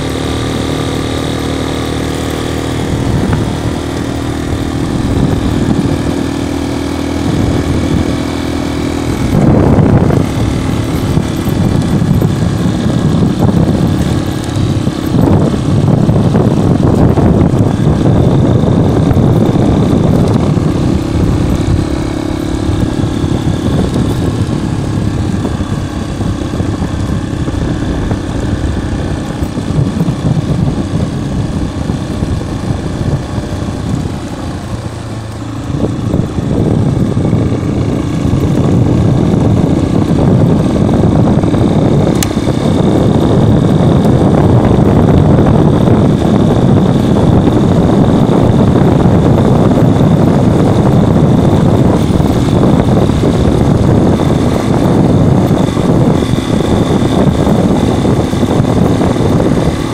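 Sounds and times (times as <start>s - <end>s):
motorcycle engine riding: 0.0s - 59.9s.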